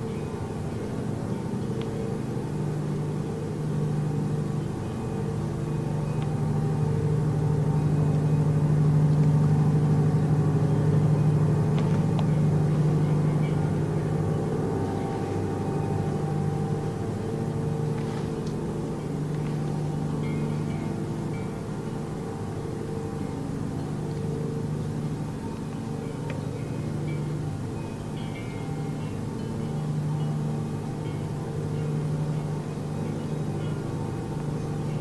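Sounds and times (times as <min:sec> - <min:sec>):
low droning hum: 0:00.0 - 0:35.0.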